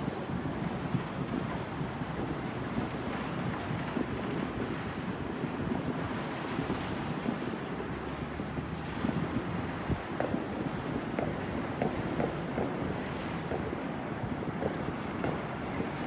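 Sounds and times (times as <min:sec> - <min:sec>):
distant fireworks rumble: 0:00.0 - 0:16.0
firecracker crackles and pops: 0:00.0 - 0:16.0.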